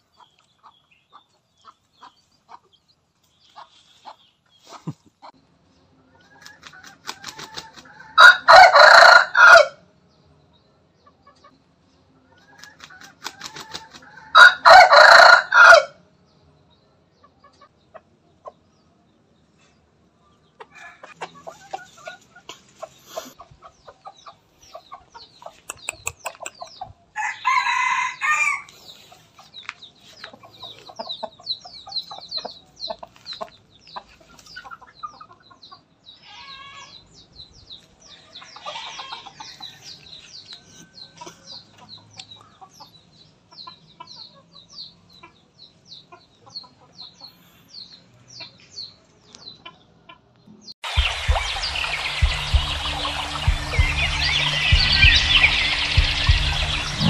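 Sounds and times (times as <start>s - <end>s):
birds clucking calls: 0.0s - 9.7s, 10.3s - 15.9s, 16.5s - 57.0s.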